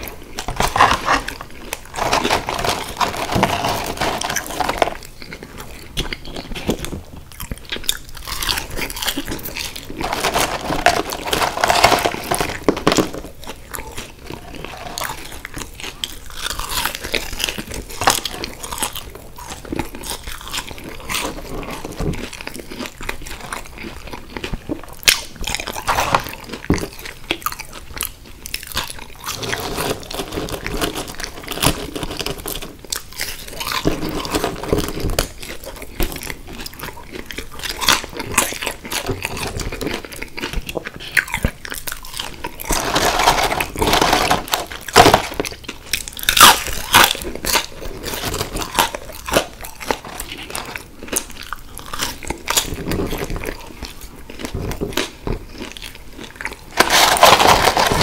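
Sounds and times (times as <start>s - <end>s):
person crunching fries: 0.0s - 58.0s.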